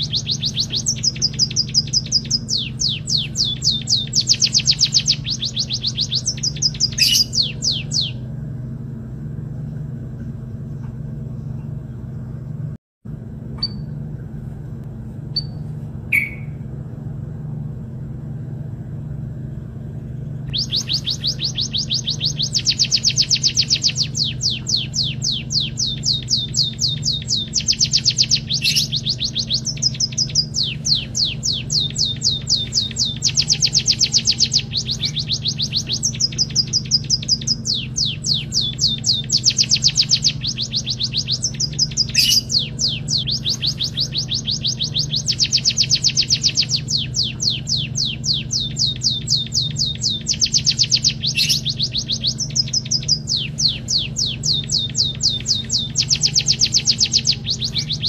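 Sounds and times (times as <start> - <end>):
bird singing rolling trills: 0.0 - 9.1, 15.4 - 16.8, 20.5 - 58.0
steady low hum: 0.0 - 58.0.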